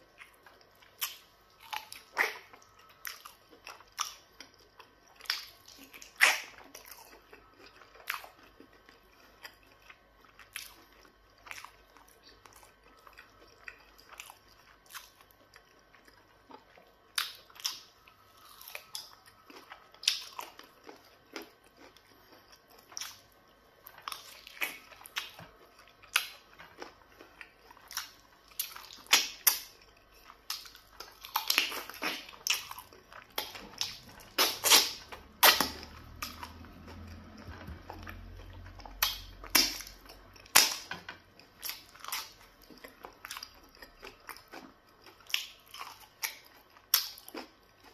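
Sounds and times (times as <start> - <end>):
person chewing: 0.0 - 47.9.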